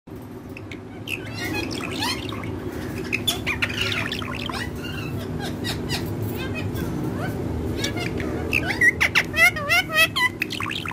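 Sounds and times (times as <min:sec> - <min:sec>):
parakeet squawks and chirps: 0:00.5 - 0:10.9.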